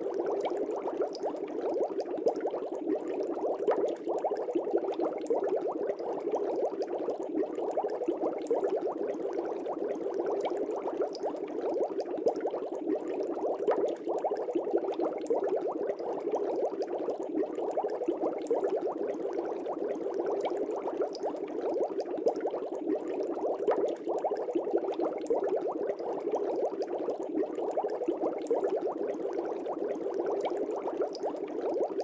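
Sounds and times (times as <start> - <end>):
aquarium bubbling: 0.0 - 32.0.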